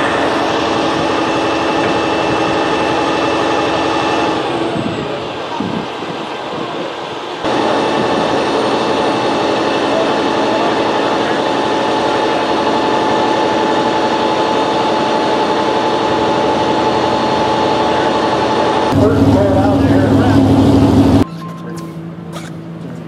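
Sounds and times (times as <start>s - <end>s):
constant whine: 0.0s - 23.0s
crane engine and hydraulics humming: 0.0s - 23.0s.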